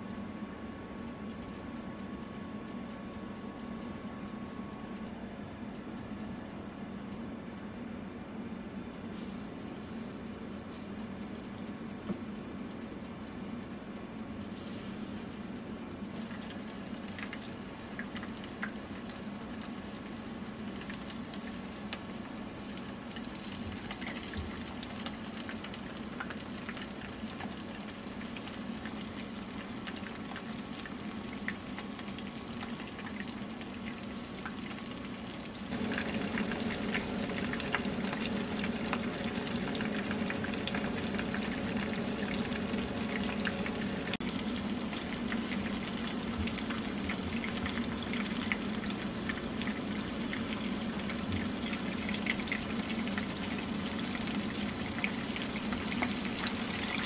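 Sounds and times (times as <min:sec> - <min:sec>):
chicken frying with crackling: 0:09.1 - 0:57.0.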